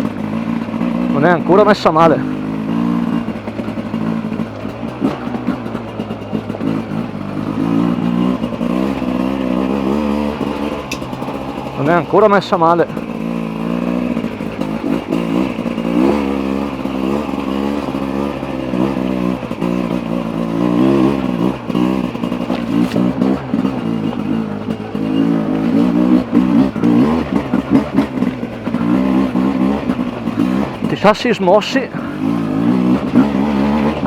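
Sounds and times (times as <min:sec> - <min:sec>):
two-stroke motorcycle engine revving: 0:00.0 - 0:34.0.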